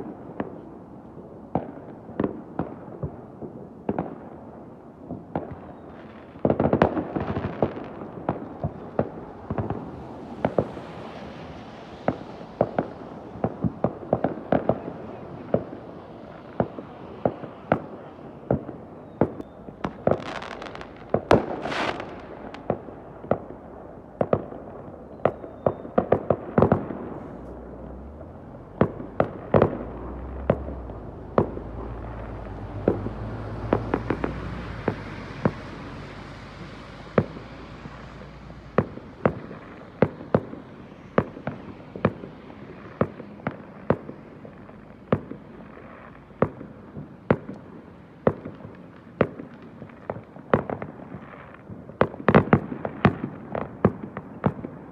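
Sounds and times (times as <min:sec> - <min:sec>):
fireworks bangs: 0:00.0 - 0:54.9
fireworks hiss and rumble: 0:00.0 - 0:54.9.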